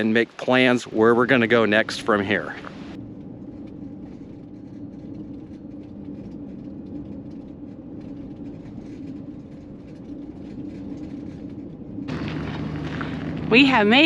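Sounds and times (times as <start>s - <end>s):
vehicle driving on road: 0.0s - 14.0s.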